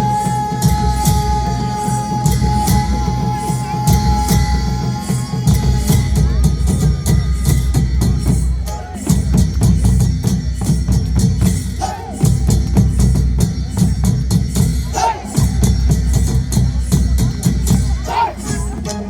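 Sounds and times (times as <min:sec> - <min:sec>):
steady drumming: 0:00.0 - 0:19.0.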